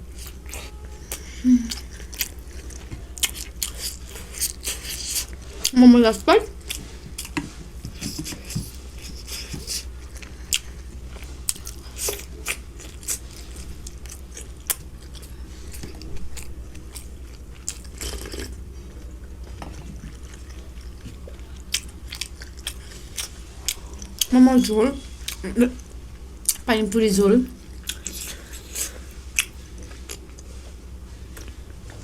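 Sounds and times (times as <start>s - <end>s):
person chewing food: 0.0s - 5.8s, 6.4s - 24.3s, 25.0s - 26.7s, 27.6s - 32.0s
steady low hum: 0.0s - 32.0s.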